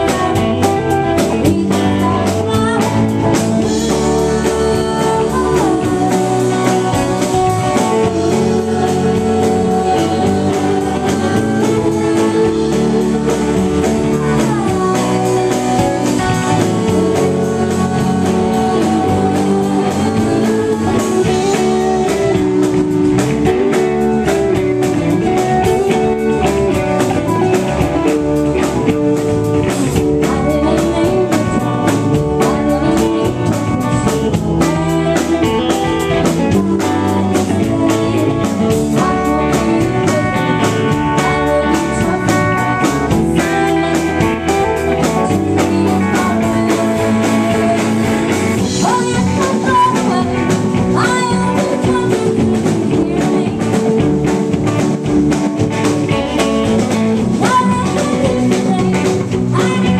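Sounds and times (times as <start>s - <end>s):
bass guitar: 0.0s - 59.9s
drum kit: 0.0s - 59.9s
electric guitars: 0.0s - 59.9s.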